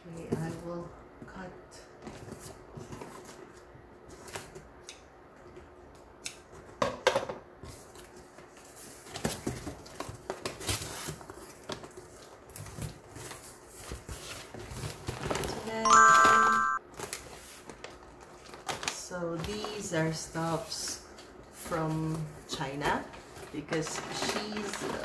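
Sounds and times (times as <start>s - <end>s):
cardboard and packaging rustling: 0.0s - 1.2s, 1.8s - 4.8s, 7.6s - 15.8s, 16.9s - 25.0s.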